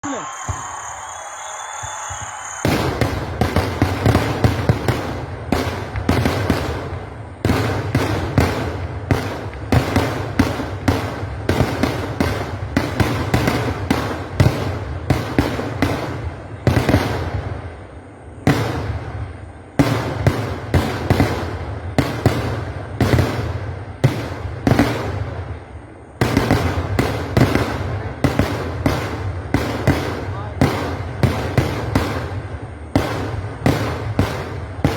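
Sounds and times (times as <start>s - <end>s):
fireworks bangs: 0.0s - 34.9s
continuous rumble: 3.0s - 34.9s.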